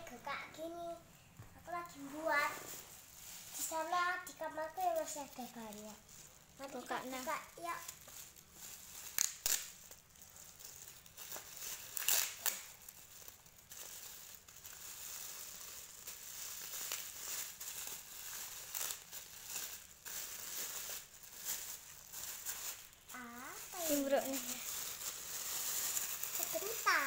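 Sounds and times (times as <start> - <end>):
wrapping paper crinkling and tearing: 1.7 - 27.0.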